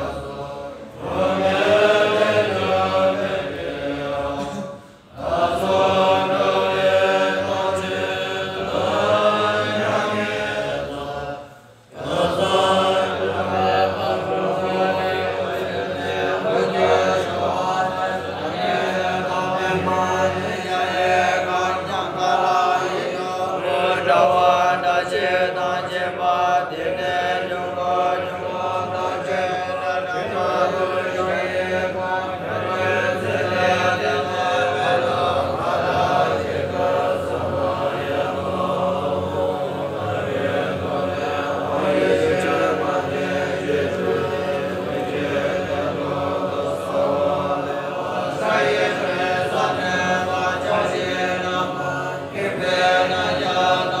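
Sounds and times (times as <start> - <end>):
monks chanting in unison: 0.0 - 54.0.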